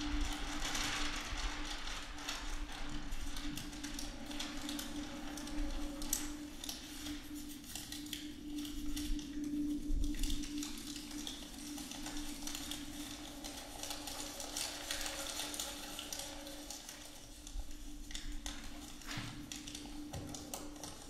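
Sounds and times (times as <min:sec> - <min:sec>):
paper crumpling: 0:00.0 - 0:21.0.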